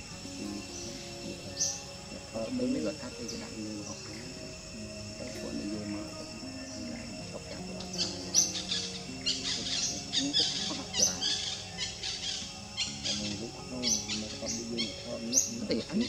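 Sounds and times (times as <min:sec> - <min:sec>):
birds chirping: 0:00.0 - 0:16.0
gentle background music: 0:00.0 - 0:16.0.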